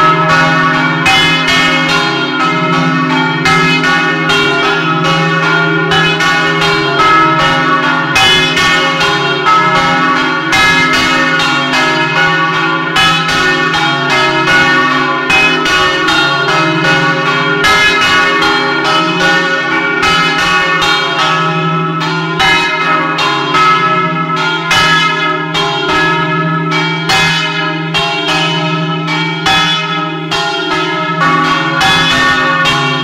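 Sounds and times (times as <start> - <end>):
church bells ringing: 0.0 - 33.0.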